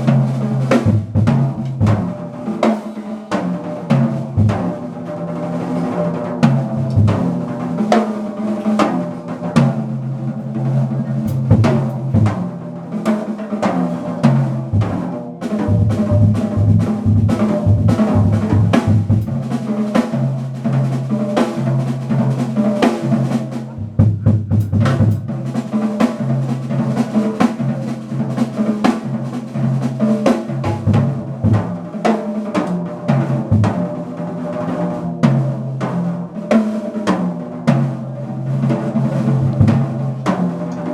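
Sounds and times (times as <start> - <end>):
drum kit: 0.0 - 40.9
jazz group playing: 0.0 - 40.9.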